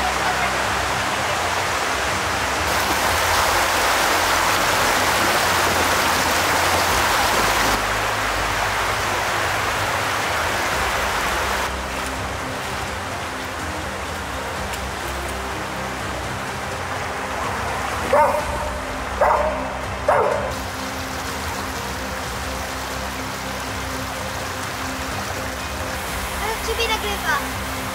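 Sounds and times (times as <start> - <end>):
water rushing: 0.0 - 27.9.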